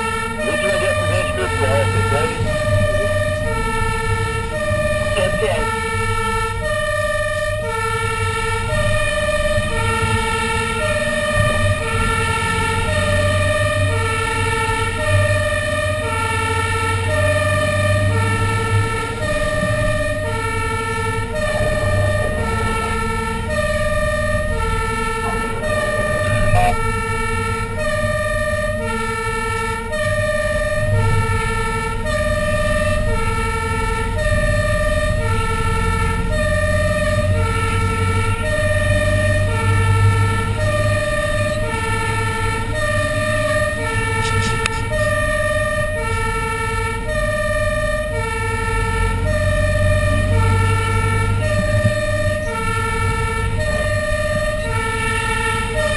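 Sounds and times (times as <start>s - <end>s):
fire engine two-tone siren: 0.0s - 55.9s
truck engine rumble: 0.0s - 55.9s.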